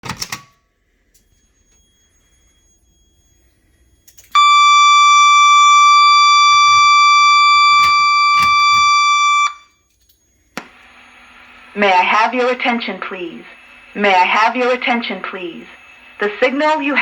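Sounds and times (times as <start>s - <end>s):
fire alarm continuous tone: 0.1s - 17.0s.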